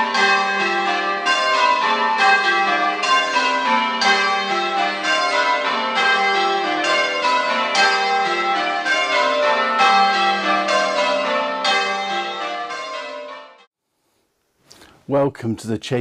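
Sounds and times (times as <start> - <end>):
church bells ringing changes: 0.0 - 13.7.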